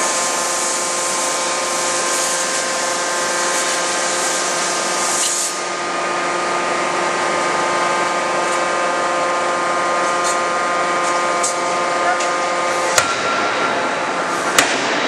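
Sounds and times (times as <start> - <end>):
forge machinery humming: 0.0 - 15.0.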